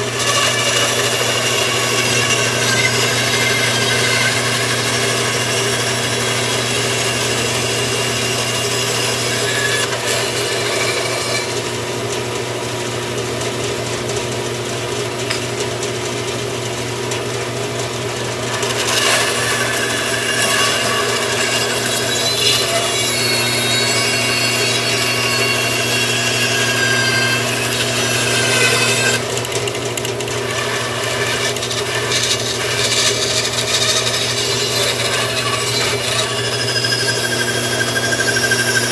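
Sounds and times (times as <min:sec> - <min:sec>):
saw blade cutting wood: 0:00.0 - 0:11.9, 0:18.2 - 0:38.9
bandsaw humming: 0:00.0 - 0:38.9.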